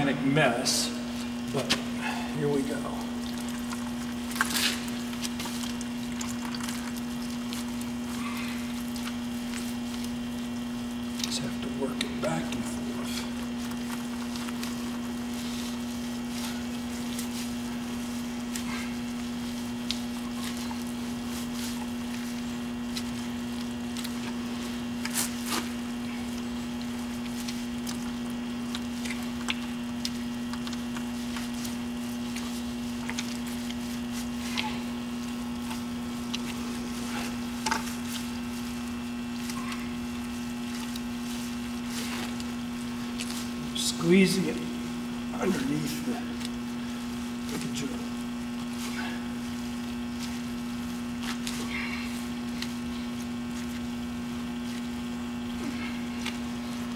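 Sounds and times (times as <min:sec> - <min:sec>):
low electrical hum: 0:00.0 - 0:56.9
oily felt pad squelching: 0:00.0 - 0:56.9.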